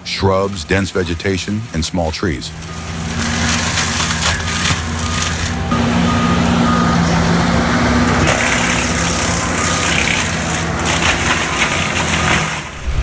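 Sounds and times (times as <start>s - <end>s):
heavy machine engine running: 2.5s - 13.0s.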